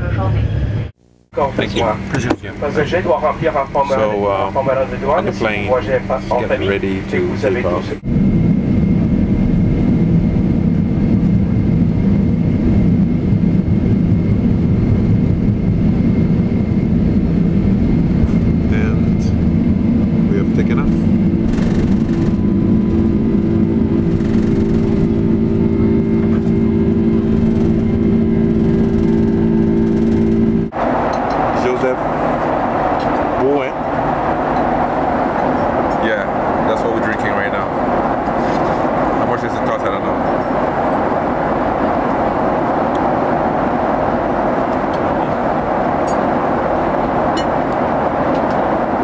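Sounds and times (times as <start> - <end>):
jet engine rushing noise in cabin: 0.0 - 49.0
steady engine hums: 0.0 - 49.0.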